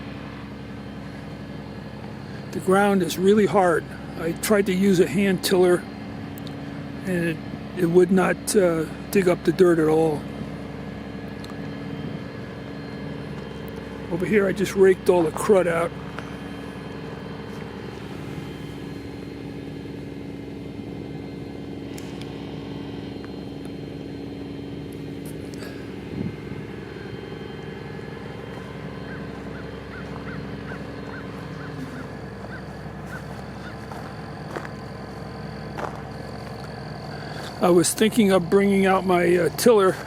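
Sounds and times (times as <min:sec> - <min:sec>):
machine hum with tones: 0:00.0 - 0:40.0.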